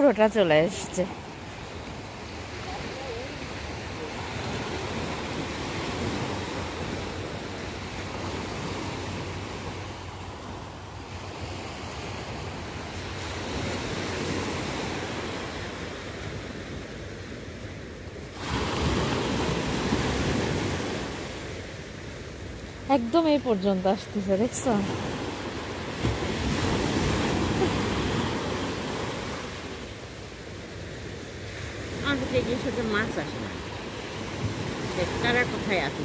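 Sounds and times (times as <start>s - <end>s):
waves breaking: 0.0s - 36.0s.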